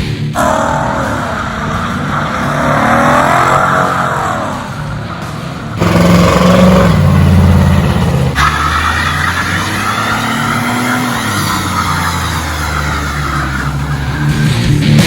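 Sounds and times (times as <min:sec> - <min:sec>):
unmuffled engine revving: 0:00.0 - 0:15.0
tyres squealing: 0:00.4 - 0:14.6.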